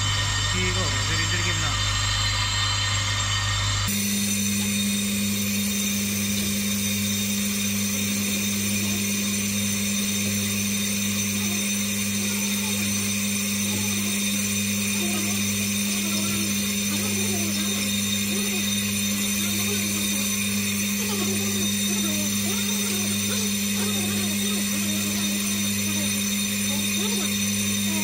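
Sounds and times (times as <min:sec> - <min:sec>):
high whine: 0:00.0 - 0:28.0
lathe motor hum: 0:00.0 - 0:28.0.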